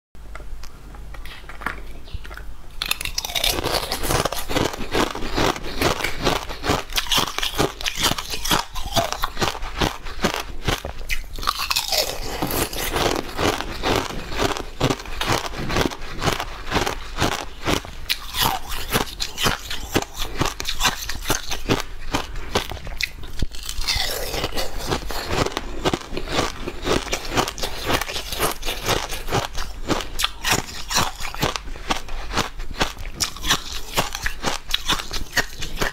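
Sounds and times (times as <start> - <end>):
crunching and chewing sweets: 0.3 - 35.9.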